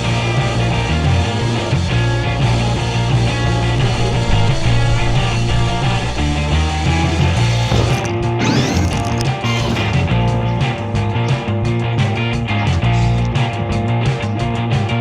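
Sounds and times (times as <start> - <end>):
rock music with loud bass: 0.0 - 15.0.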